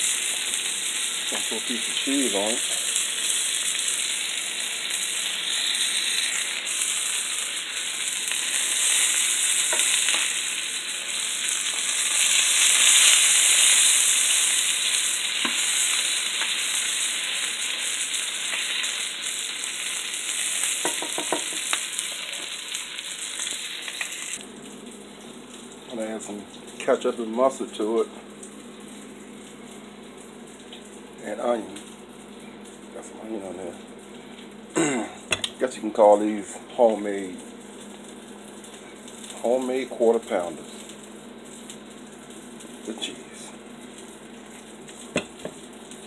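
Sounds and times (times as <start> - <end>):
patties sizzling in a frying pan: 0.0 - 46.0.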